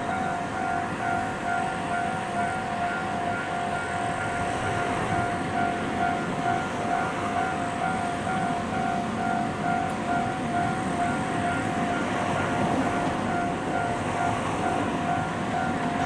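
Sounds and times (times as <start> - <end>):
level crossing alarm bell ringing: 0.0 - 16.0.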